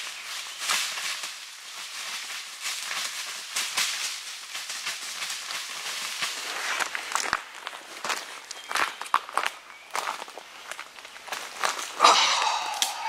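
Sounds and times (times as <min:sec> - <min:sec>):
dry leaves rustling and crunching: 0:00.0 - 0:13.0.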